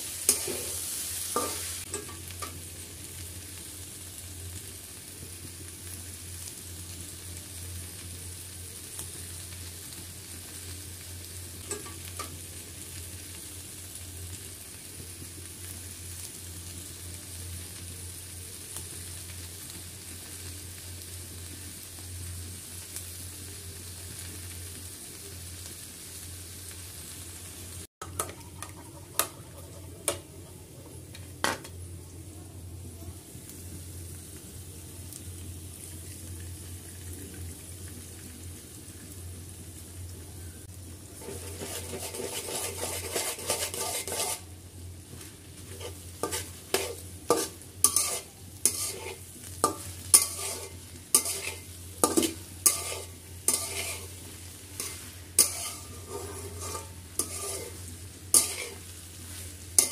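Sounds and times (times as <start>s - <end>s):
okra sizzling in a pan: 0.0s - 59.9s.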